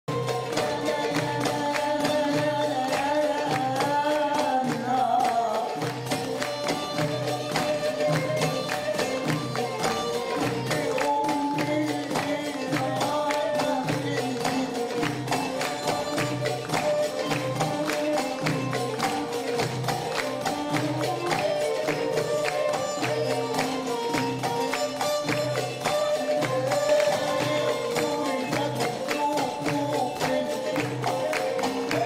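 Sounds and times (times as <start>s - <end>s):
frame drums rhythm: 0.1s - 32.0s.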